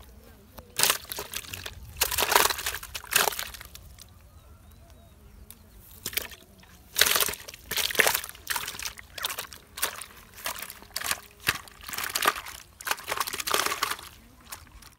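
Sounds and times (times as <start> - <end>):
fish splashing in bucket: 0.7 - 4.2, 5.8 - 14.9.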